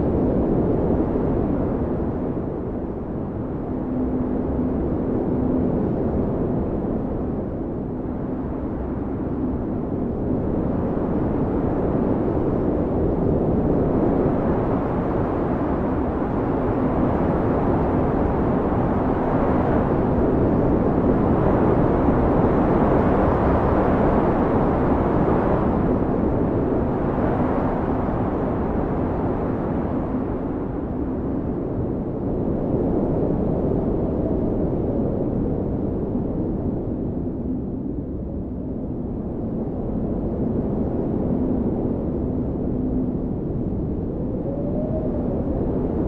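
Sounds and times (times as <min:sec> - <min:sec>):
blizzard wind howling: 0:00.0 - 0:46.0.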